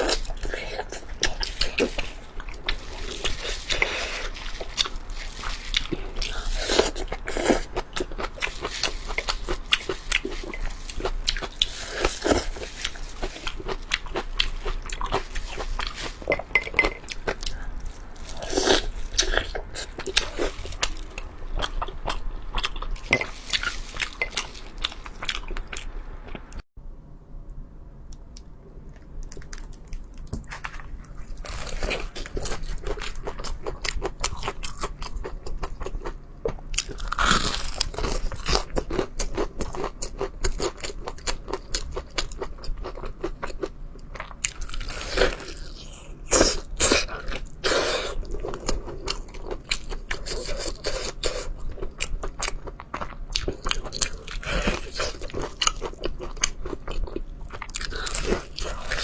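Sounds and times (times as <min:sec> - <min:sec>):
chewing crunchy food: 0:00.0 - 0:26.6, 0:28.4 - 0:59.0.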